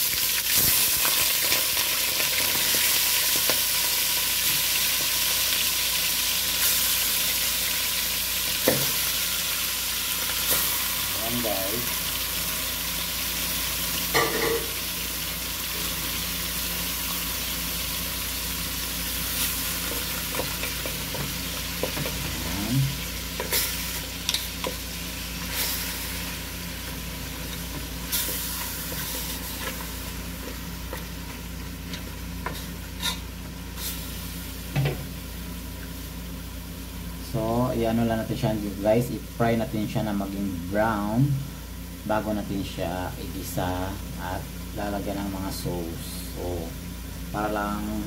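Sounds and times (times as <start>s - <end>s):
meat sizzling in hot oil: 0.0s - 48.0s.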